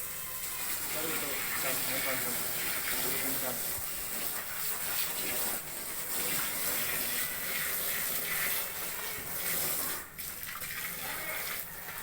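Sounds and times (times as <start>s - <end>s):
water pouring onto sawdust: 0.0s - 12.0s.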